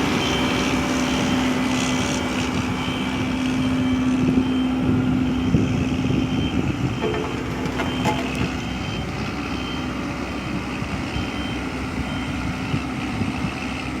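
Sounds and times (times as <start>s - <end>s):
heavy truck engine running: 0.0s - 14.0s
reversing alarm beeping: 0.2s - 10.0s, 11.0s - 12.5s.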